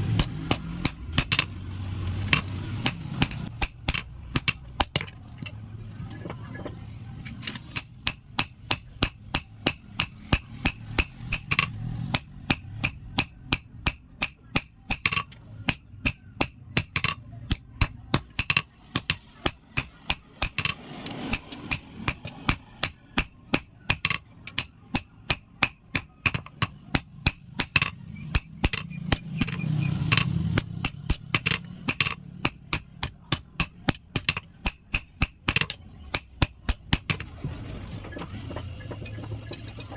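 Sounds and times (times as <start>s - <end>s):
hammer striking iron on anvil: 0.0s - 5.2s, 7.5s - 37.2s.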